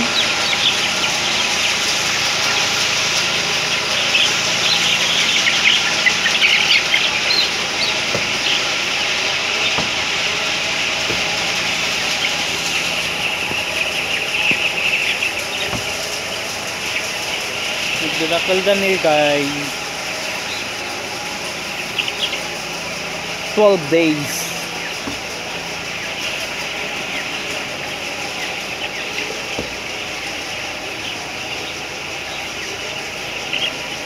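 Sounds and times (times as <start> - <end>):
chicks peeping: 0.0 - 33.8
ventilation fans hissing: 0.0 - 34.0.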